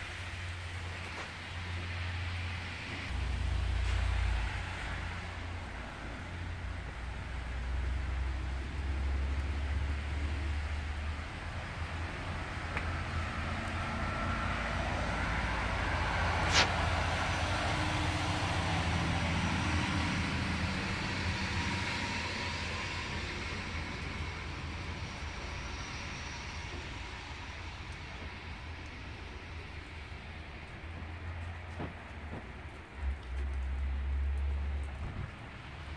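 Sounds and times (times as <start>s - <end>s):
distant vehicle rumble: 0.0s - 35.9s.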